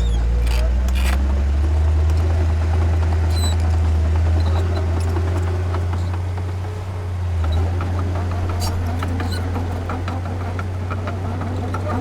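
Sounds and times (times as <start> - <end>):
diesel machinery engine drone: 0.0 - 12.0.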